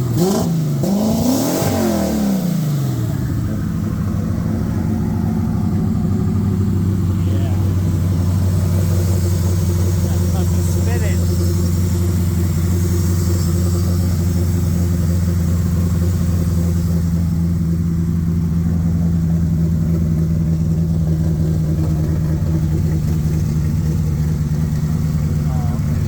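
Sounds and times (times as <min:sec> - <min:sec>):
car engine drone: 0:00.0 - 0:26.0.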